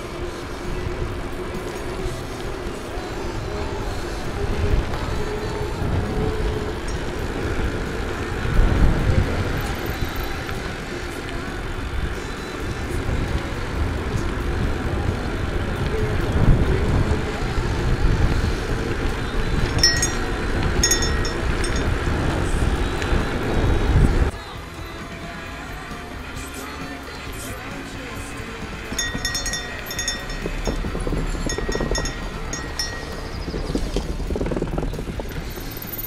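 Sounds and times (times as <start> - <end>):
wind buffeting microphone: 0.0 - 24.3, 28.6 - 36.0.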